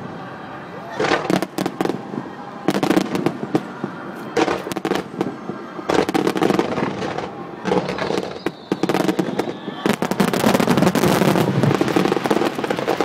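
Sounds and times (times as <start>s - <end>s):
fireworks cracking and popping: 0.9s - 13.0s.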